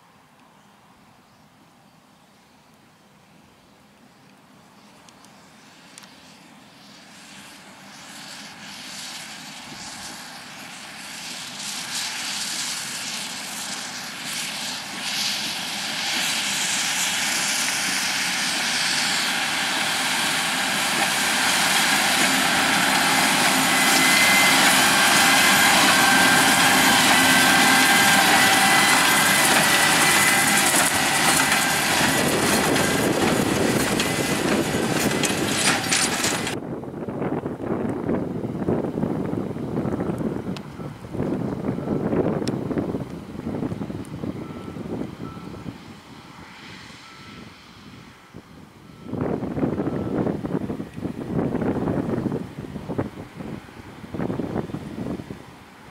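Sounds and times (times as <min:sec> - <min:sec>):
tractor and baler whine: 0:03.4 - 0:55.9.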